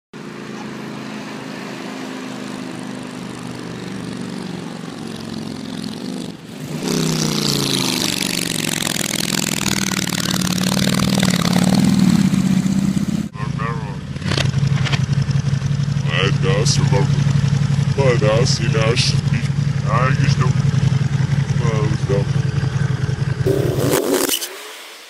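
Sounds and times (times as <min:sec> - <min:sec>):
motorcycle engine: 0:00.2 - 0:25.0.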